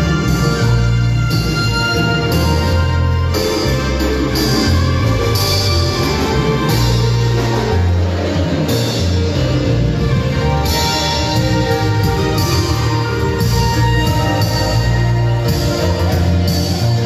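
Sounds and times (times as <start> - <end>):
bass line: 0.0 - 17.0
marimba band playing: 0.0 - 17.0.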